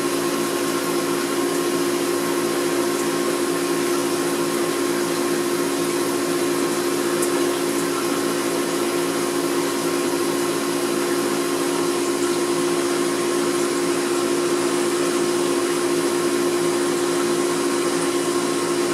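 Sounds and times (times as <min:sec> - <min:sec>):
aquarium pump humming: 0:00.0 - 0:18.9.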